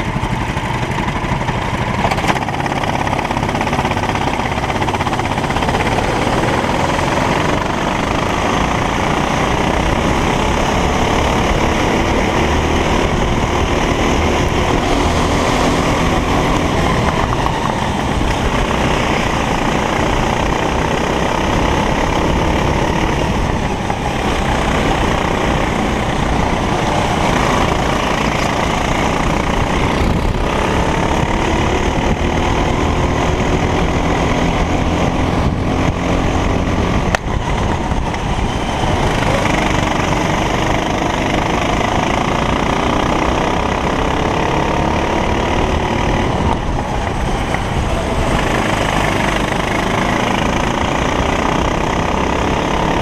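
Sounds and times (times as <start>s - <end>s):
kart engine running loudly: 0.0s - 53.0s.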